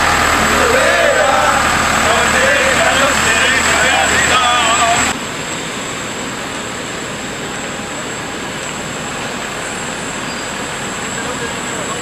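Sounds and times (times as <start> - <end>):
high turbine whine: 0.0 - 12.0
jet turbine rushing: 0.0 - 12.0.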